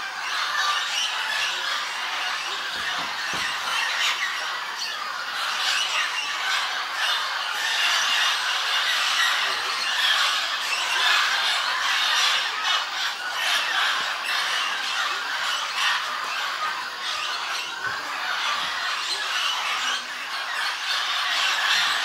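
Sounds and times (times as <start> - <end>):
parrots squawking: 0.0 - 22.0.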